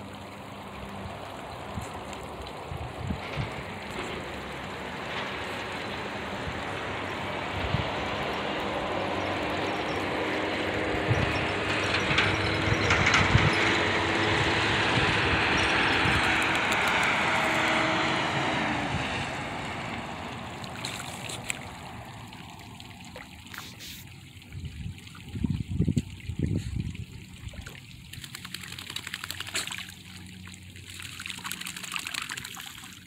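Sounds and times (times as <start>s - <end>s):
distant engine drone: 0.0s - 33.0s.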